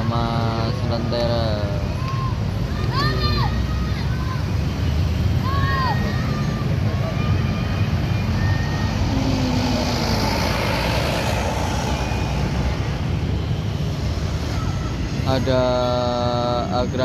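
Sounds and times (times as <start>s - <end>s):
bus engines rumbling: 0.0s - 17.0s
road traffic noise: 0.0s - 17.0s.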